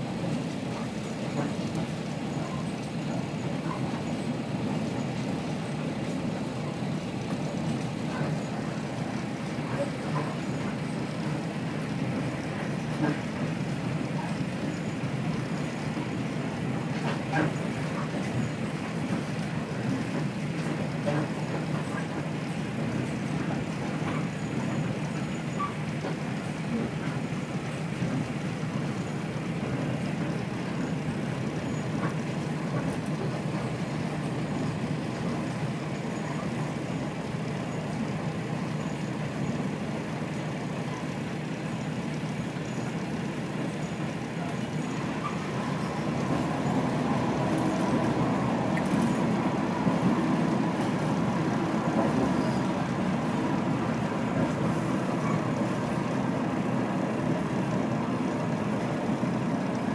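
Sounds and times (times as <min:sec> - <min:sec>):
train engine and wheels drone: 0:00.0 - 0:59.9.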